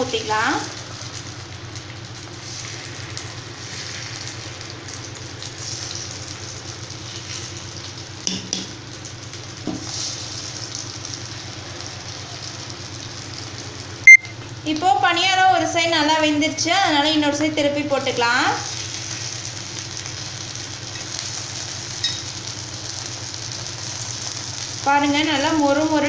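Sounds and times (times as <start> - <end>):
batter sizzling in oil: 0.0 - 26.0.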